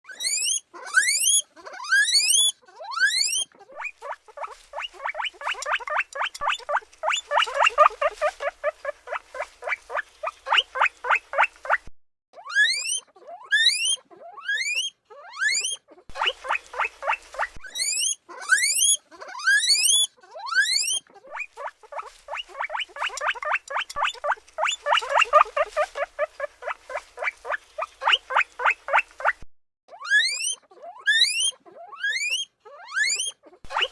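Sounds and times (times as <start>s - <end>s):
guinea pig short squeaks: 0.1s - 33.9s
guinea pig whistle calls: 0.1s - 33.9s.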